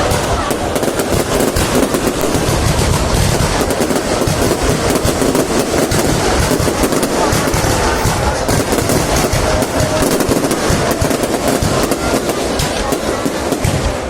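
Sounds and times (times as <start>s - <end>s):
fireworks booms rumbling: 0.0s - 14.0s
fireworks crackling: 0.0s - 14.0s.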